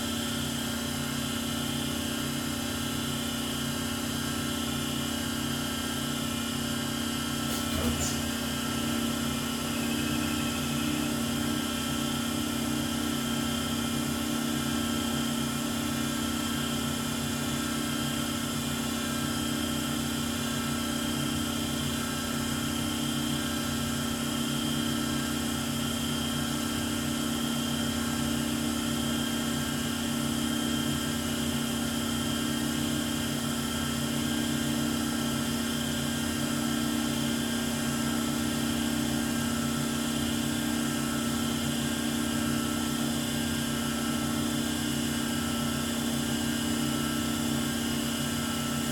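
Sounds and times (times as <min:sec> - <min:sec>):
lathe machine hum with tones: 0:00.0 - 0:48.9.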